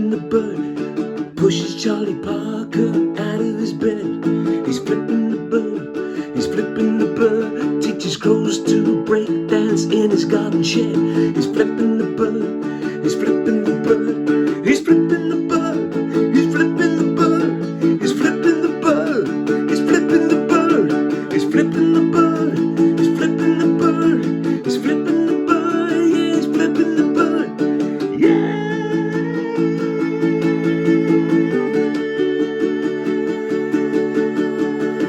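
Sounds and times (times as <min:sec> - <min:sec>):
picked lead melody: 0:00.0 - 0:35.0
strummed string accompaniment: 0:00.0 - 0:35.0.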